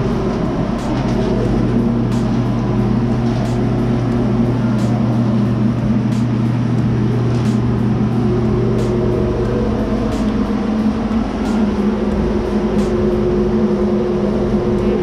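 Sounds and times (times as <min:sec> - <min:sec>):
ventilation fan motor hum: 0:00.0 - 0:15.0.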